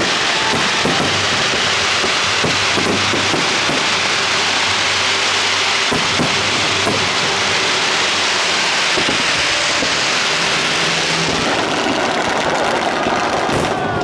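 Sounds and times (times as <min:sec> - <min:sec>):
fireworks crackling: 0:00.0 - 0:14.0
fireworks sharp bangs: 0:00.0 - 0:14.0.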